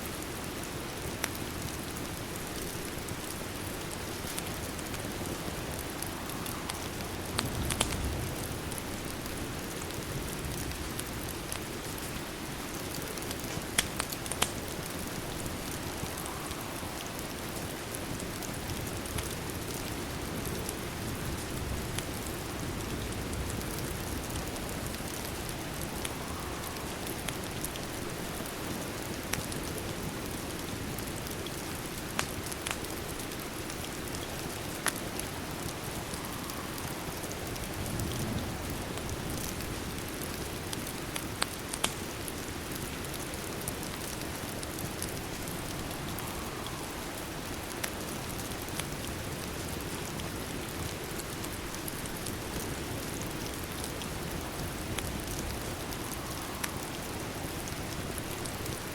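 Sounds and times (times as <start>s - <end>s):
steady rain falling: 0.0s - 58.9s
fireplace crackling and popping: 0.2s - 58.9s.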